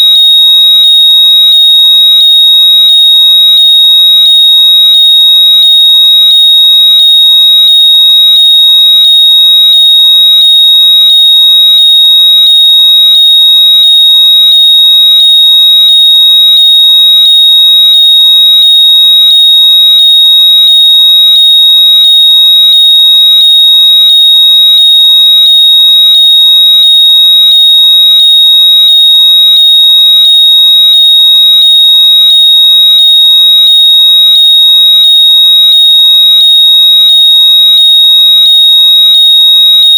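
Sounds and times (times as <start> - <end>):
high-pitched electronic tone: 0.0 - 39.9.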